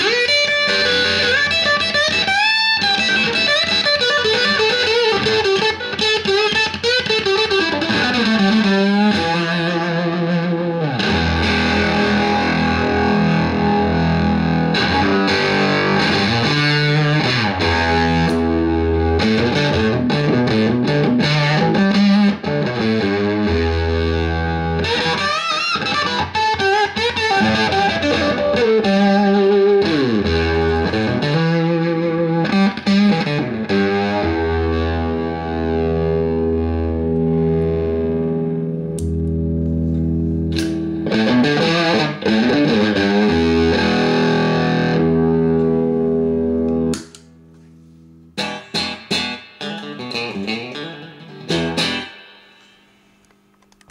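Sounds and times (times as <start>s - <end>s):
fuzz electric guitar lead: 0.0s - 52.8s.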